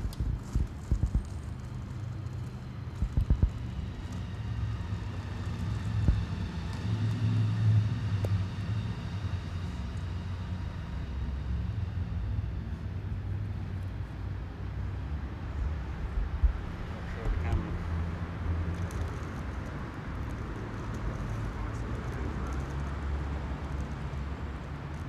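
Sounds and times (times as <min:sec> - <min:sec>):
distant traffic rumble: 0:00.0 - 0:25.0.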